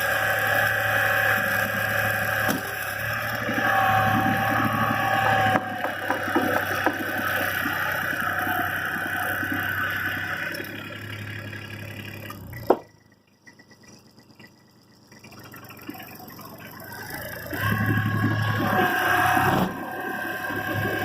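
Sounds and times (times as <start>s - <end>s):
tractor engine humming: 0.0s - 21.0s.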